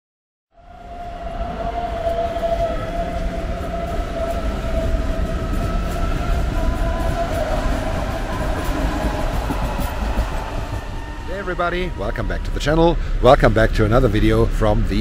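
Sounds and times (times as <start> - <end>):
electric train drive whine: 0.6 - 15.0
train wheels rumbling on rails: 0.6 - 15.0.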